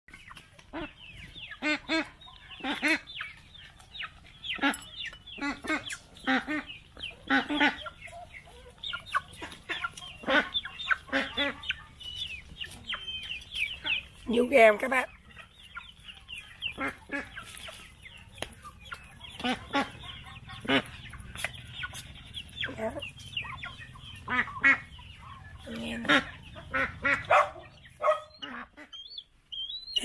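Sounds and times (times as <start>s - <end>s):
young chickens clucking and cheeping: 0.1s - 30.0s.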